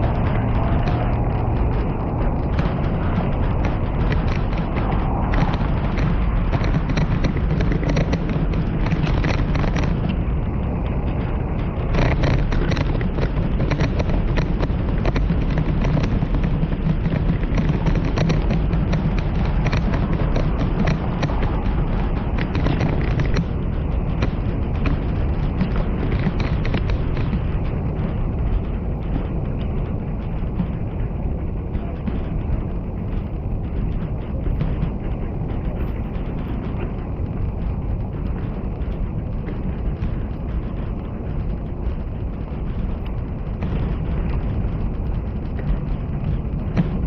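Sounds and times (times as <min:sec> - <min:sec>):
stroller rolling on pavement: 0:00.0 - 0:47.0
wheels and frame rattling: 0:00.0 - 0:47.0.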